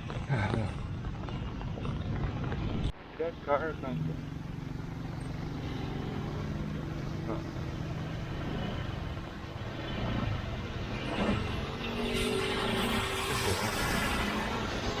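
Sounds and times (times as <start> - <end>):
road noise: 0.0 - 15.0
street traffic: 0.0 - 15.0.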